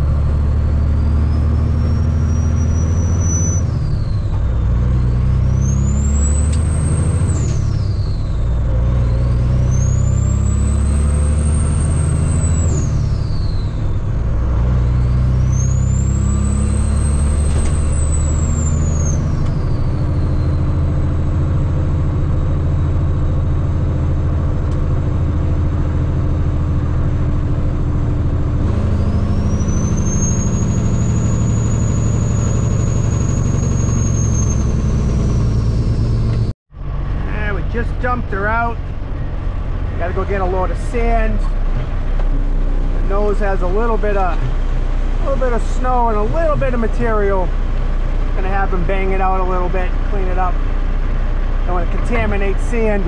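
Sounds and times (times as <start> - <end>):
diesel truck shifting gears: 0.0 - 53.0.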